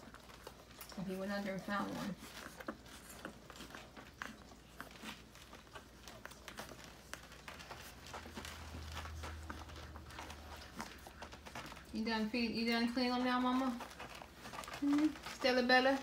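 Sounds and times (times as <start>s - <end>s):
puppies suckling wet clicks: 0.0s - 16.0s
rustling of fur and bedding: 0.0s - 16.0s.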